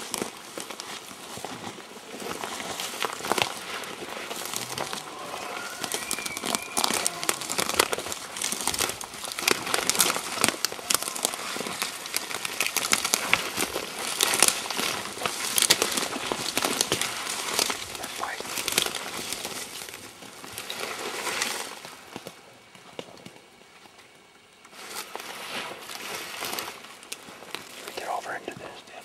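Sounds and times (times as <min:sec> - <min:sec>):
rustling and snapping of brush: 0:00.0 - 0:28.0.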